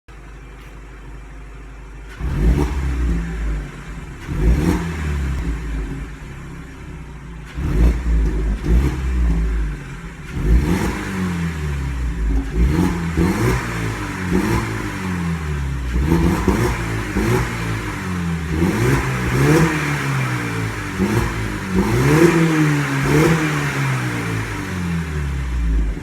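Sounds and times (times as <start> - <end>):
car engine revving: 2.0 - 26.0.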